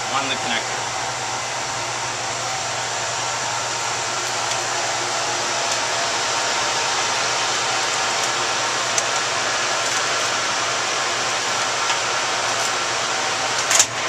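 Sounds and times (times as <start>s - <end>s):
server cooling fans rushing: 0.0s - 14.0s.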